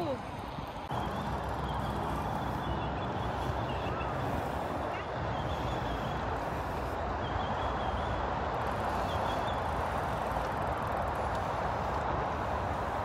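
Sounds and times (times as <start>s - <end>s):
tyres rolling on pavement: 0.0s - 13.0s
wind buffeting microphone: 0.0s - 13.0s.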